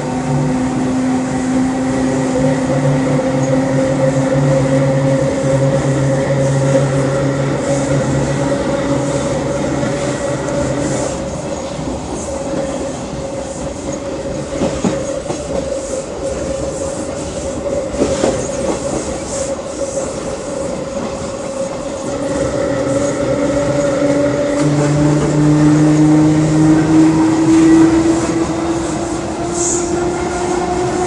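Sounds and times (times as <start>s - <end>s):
electric train rumble and whine: 0.0s - 31.0s.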